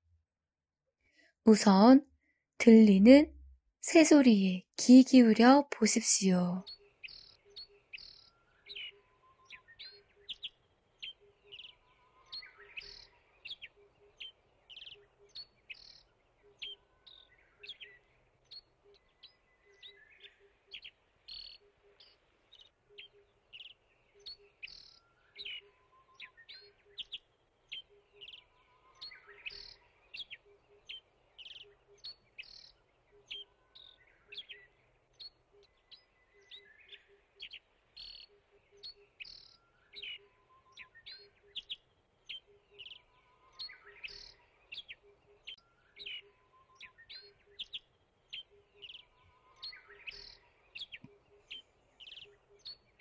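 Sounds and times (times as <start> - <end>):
birds chirping: 3.9 - 53.0.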